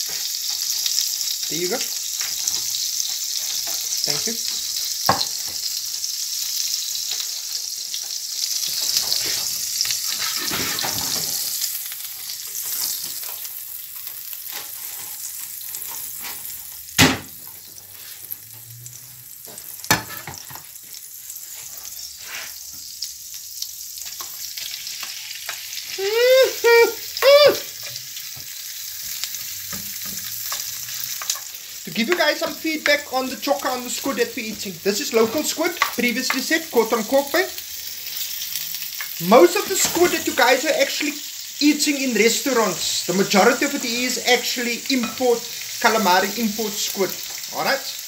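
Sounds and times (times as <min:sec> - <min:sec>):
butter sizzling in a pan: 0:00.0 - 0:48.0.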